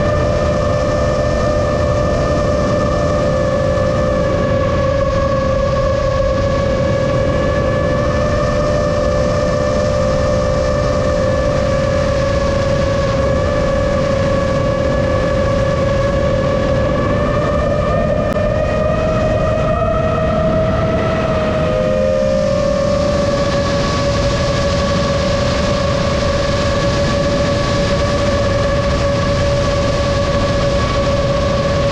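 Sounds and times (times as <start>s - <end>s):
drone propellers buzzing: 0.0s - 31.9s.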